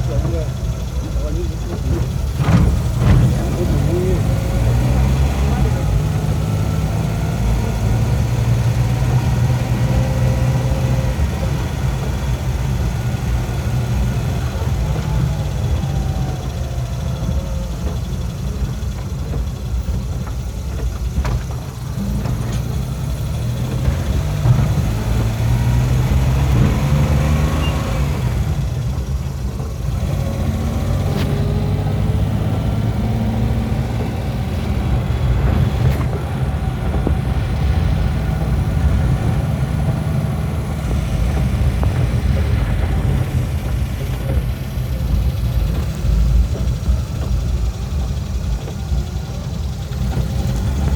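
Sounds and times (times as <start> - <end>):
road noise: 0.0 - 50.9
vehicle engine rumble: 0.0 - 50.9.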